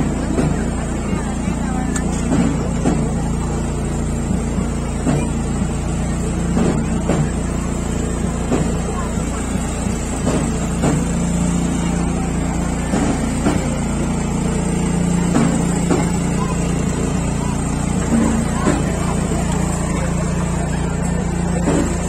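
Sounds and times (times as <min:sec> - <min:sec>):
engine hum: 0:00.0 - 0:22.0
people talking: 0:00.0 - 0:22.0.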